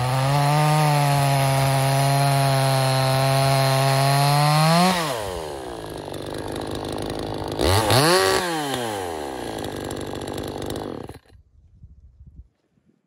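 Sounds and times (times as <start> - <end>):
chainsaw idling and revving: 0.0 - 11.4.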